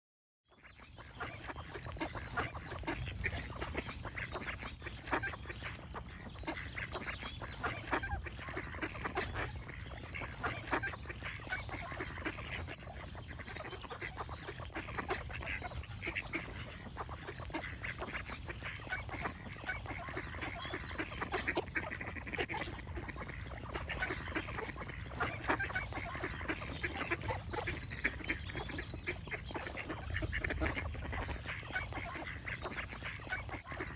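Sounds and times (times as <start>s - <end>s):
ducks quacking: 0.6s - 33.9s.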